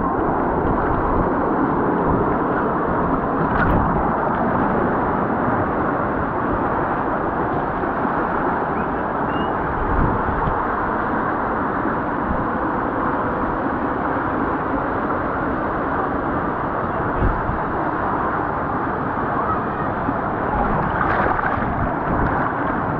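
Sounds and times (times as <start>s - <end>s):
muffled rush of water: 0.0s - 22.9s.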